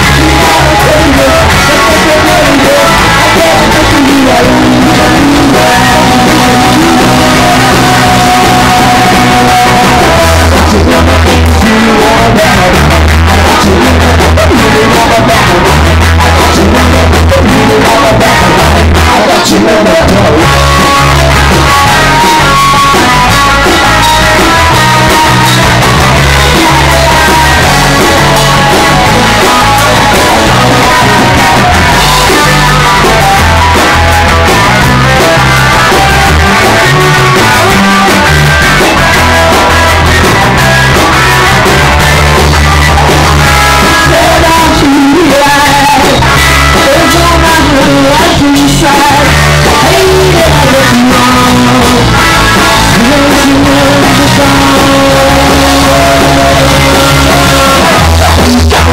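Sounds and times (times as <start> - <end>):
drums: 0.0 - 58.9
electric guitar: 0.0 - 58.9
low bass notes: 0.0 - 58.9
man singing: 0.0 - 58.9.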